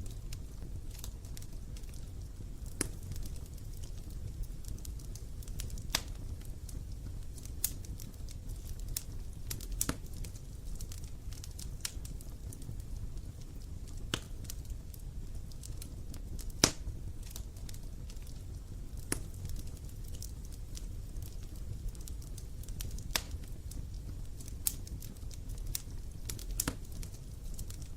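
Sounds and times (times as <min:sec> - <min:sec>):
sharp pops of fire: 0:00.0 - 0:27.9
wood fire crackling: 0:00.0 - 0:27.9.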